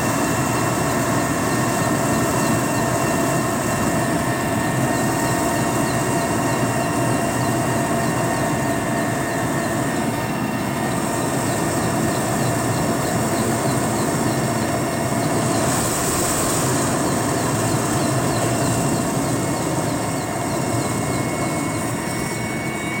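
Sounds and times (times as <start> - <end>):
helicopter rumble: 0.0 - 23.0
turbine whine: 0.0 - 23.0.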